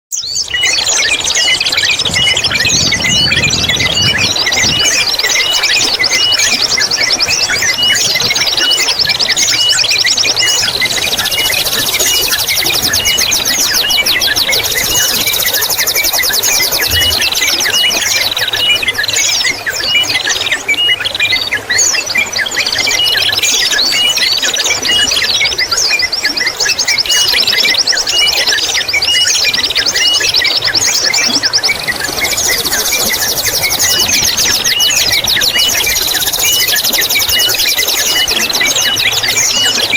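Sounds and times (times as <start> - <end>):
songbirds singing: 0.1 - 39.9
trickling water: 0.2 - 39.9.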